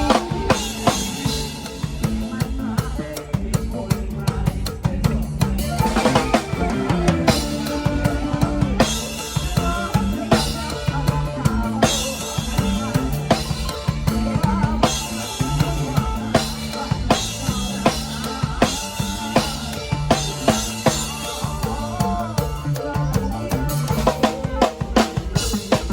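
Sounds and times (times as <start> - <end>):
dance music with drums and bass: 0.0 - 25.9.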